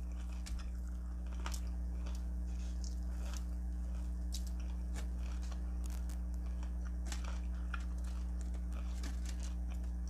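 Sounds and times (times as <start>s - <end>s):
chewing crunchy food: 0.0s - 10.0s
low electrical hum: 0.0s - 10.0s.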